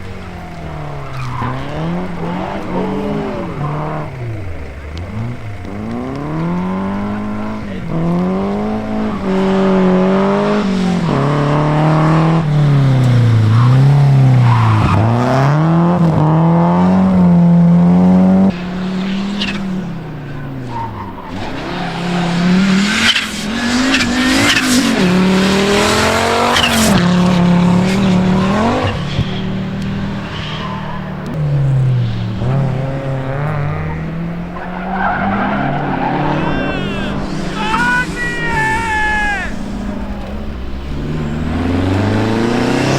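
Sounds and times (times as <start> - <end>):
rally car engines at full throttle: 0.0 - 42.9.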